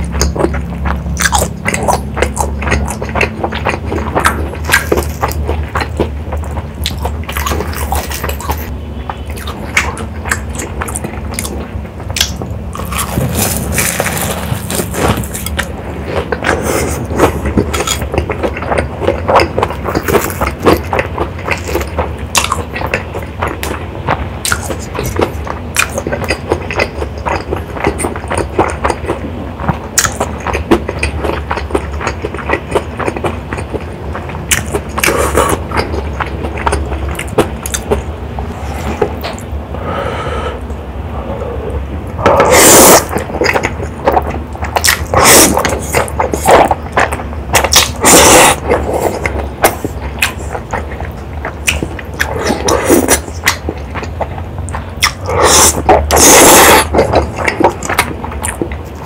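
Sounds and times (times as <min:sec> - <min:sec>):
low hum: 0:00.0 - 0:25.8, 0:31.9 - 0:56.2
crunchy chewing: 0:00.0 - 0:39.6, 0:41.2 - 0:59.0.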